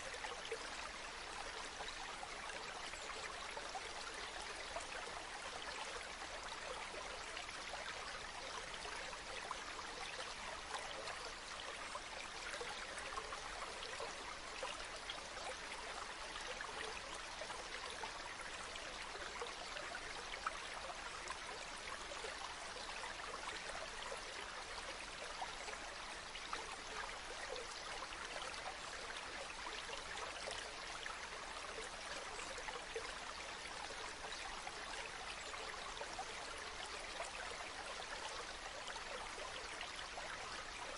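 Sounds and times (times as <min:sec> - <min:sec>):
spring water trickling and splashing: 0:00.0 - 0:40.9.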